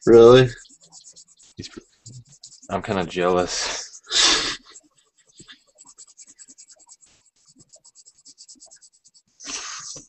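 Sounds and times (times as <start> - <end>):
pencil scratching on paper: 0.0 - 10.0.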